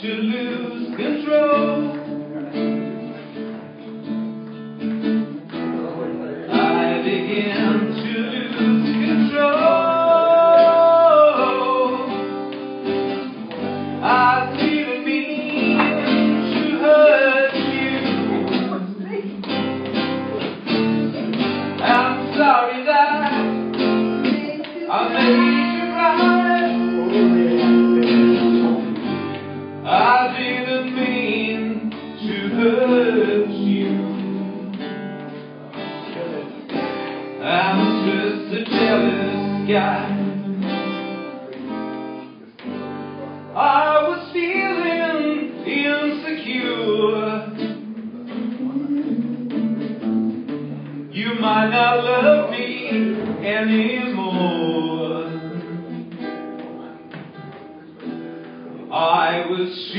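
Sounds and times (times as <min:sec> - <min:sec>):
person singing: 0:00.0 - 0:03.2, 0:06.3 - 0:12.4, 0:14.0 - 0:29.2, 0:29.8 - 0:35.2, 0:36.2 - 0:41.8, 0:43.4 - 0:57.2
acoustic guitar strummed and picked: 0:00.0 - 0:59.9.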